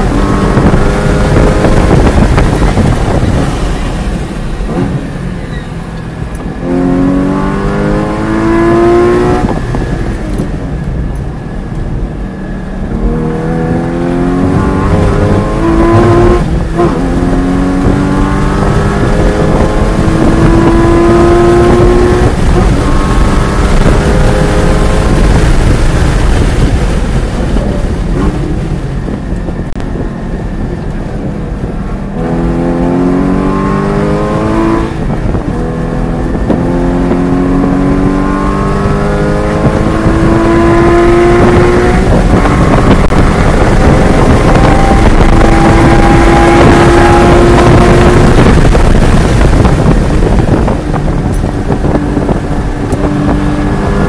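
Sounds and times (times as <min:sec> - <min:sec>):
car engine accelerating: 0:00.0 - 0:54.0
tyre and wind noise: 0:00.0 - 0:54.0.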